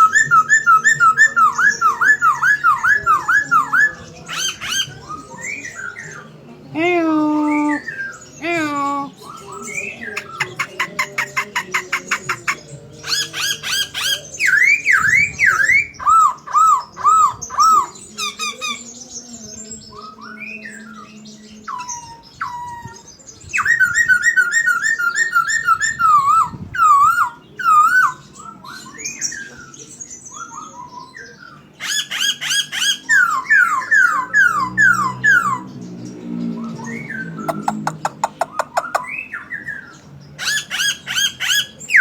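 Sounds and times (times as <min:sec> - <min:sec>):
songbird whistling song: 0:00.0 - 0:06.4, 0:09.1 - 0:42.0.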